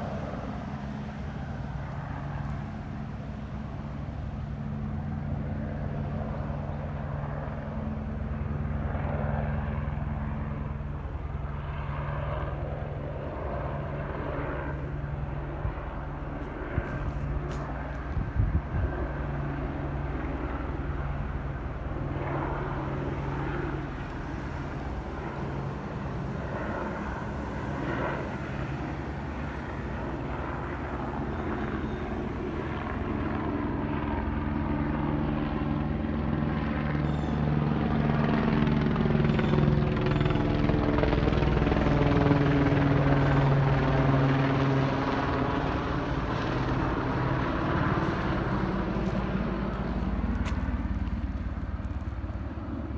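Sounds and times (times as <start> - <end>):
helicopter rotor and engine drone: 0.0 - 52.9.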